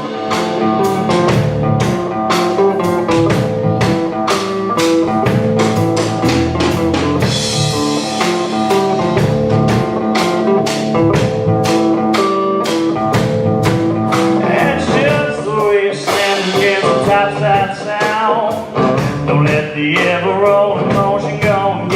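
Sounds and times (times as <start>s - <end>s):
drums steady beat: 0.0s - 21.9s
guitar playing: 0.0s - 21.9s.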